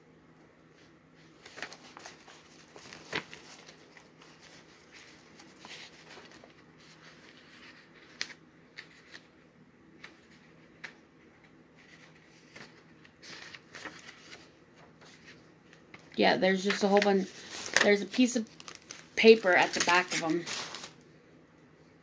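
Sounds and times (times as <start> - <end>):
paper sheets rustling: 0.8 - 9.3, 10.0 - 21.0.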